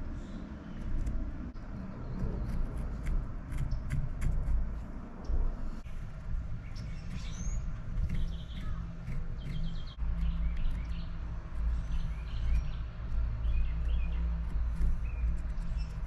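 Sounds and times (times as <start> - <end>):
small birds chirping: 0.0 - 4.6, 5.2 - 16.0.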